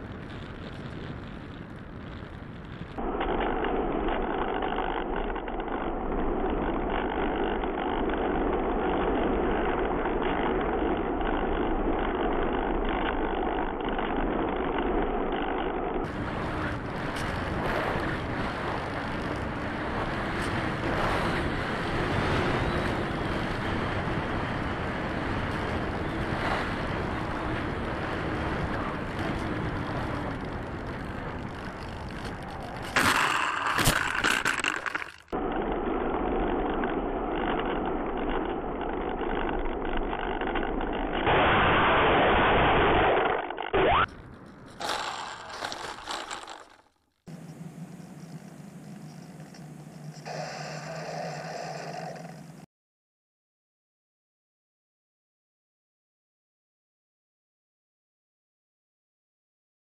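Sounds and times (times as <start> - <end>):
electric motor and propeller humming: 0.0 - 41.4, 42.8 - 52.7.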